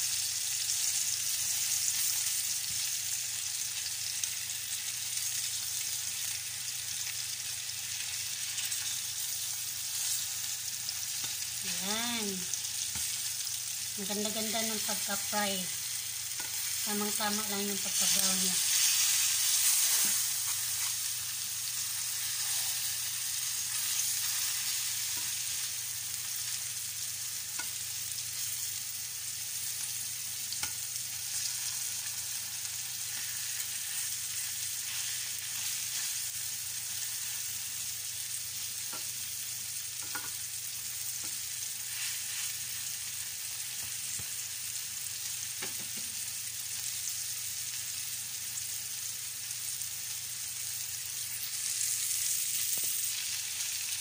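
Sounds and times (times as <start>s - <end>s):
meat sizzling in oil: 0.0s - 54.0s.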